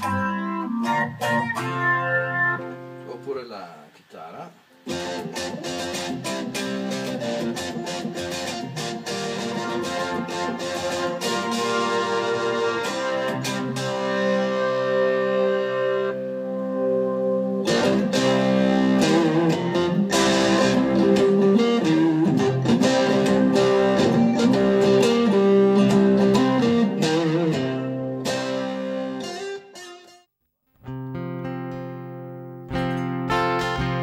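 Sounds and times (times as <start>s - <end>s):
electric guitar sustained chords: 4.9s - 29.6s, 30.9s - 34.0s.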